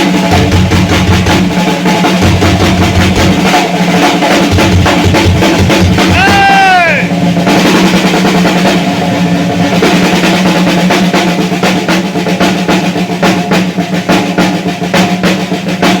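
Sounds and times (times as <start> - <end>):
drum kit solo: 0.0 - 16.0.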